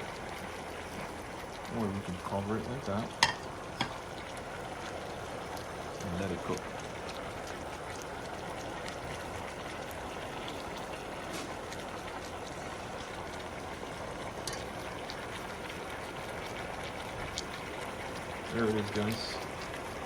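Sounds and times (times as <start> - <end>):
water boiling in a pot: 0.0 - 20.0.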